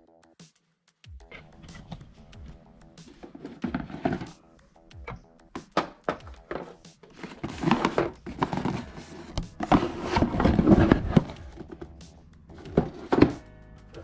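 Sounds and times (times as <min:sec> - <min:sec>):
handling knocks and clatter: 0:01.2 - 0:13.4
rustling: 0:01.3 - 0:05.2, 0:05.8 - 0:13.4.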